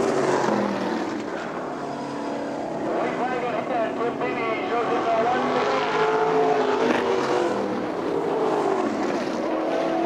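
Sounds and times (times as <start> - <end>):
racing car engines passing: 0.0 - 10.0.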